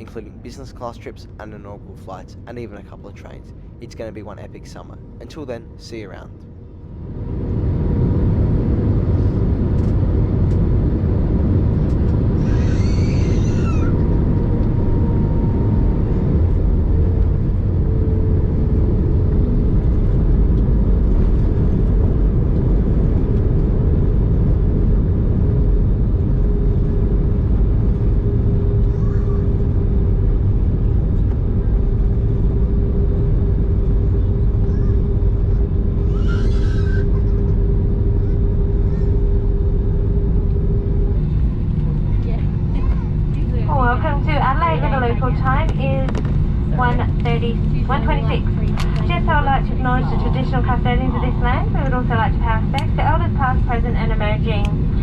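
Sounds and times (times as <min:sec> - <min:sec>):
airplane cabin engine rumble: 0:00.0 - 0:55.0
faint steady whine: 0:00.0 - 0:55.0.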